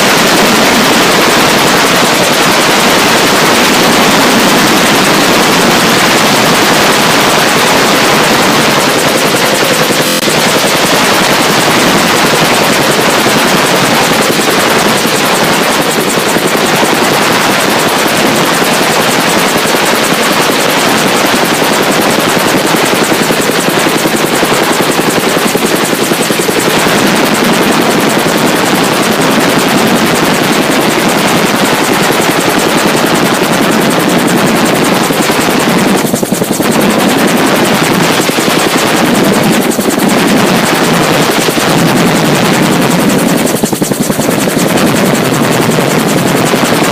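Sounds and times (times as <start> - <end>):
helicopter rotor and engine: 0.0 - 46.9.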